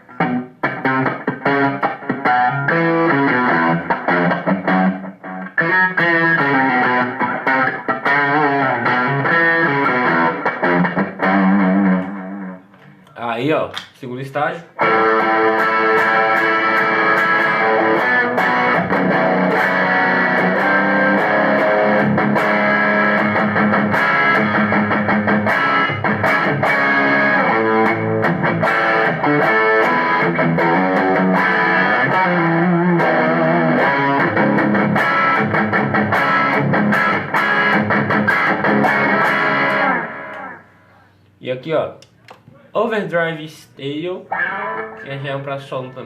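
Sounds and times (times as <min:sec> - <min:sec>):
distorted electric guitar: 0:00.0 - 0:12.9, 0:14.7 - 0:41.0, 0:44.2 - 0:45.4.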